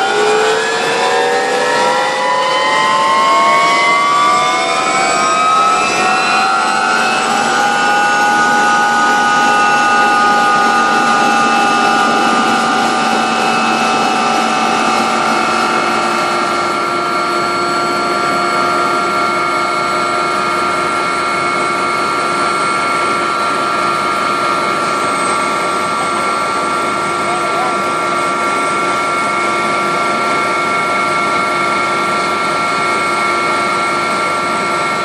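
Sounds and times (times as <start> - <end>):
helicopter turbine and rotor: 0.0 - 35.0.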